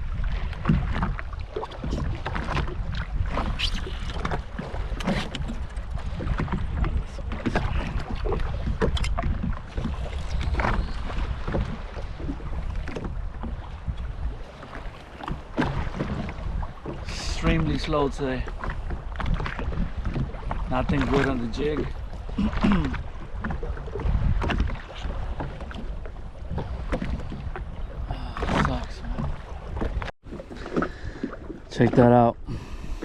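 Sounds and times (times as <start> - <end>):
knocks and splashes: 0.0 - 32.4
water slapping against hull: 0.0 - 33.0
wind buffeting microphone: 0.0 - 33.0.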